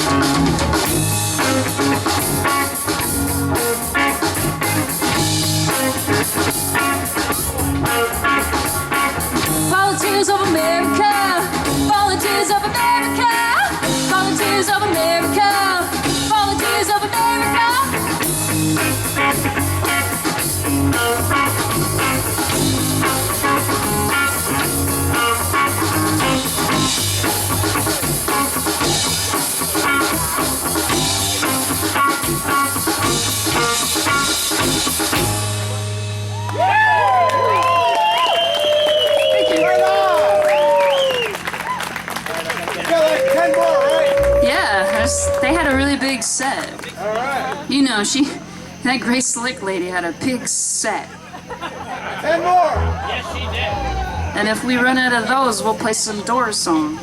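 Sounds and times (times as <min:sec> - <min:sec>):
live rock band playing: 0:00.0 - 0:46.6, 0:52.4 - 0:57.0.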